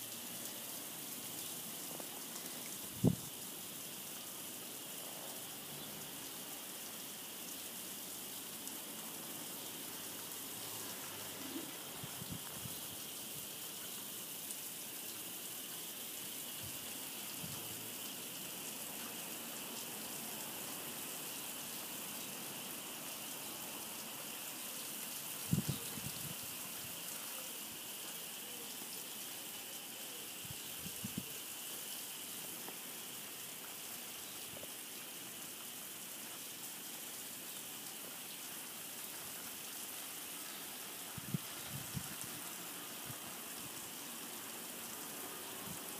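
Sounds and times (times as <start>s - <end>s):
hose spraying water on concrete: 0.0s - 45.9s.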